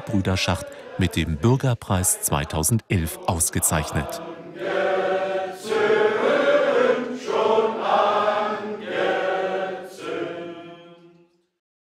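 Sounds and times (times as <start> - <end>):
choir singing held notes: 0.0 - 11.4.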